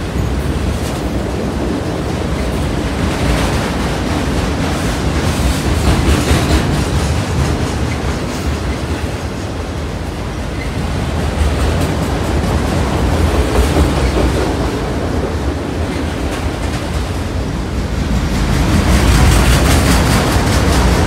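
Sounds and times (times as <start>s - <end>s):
steel wheels rumbling on rail: 0.0s - 21.0s
wheels clacking over rail joints: 0.0s - 21.0s.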